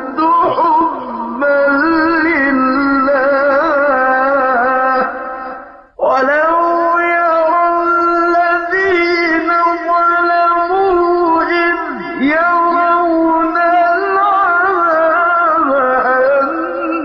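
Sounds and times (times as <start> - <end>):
person singing chant-like melody: 0.0 - 17.0.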